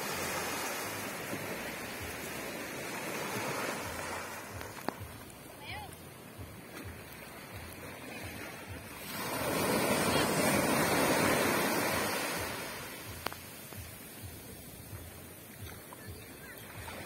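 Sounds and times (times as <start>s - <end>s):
small waves lapping: 0.0s - 17.0s
wave breaking and surf rushing: 0.0s - 17.0s.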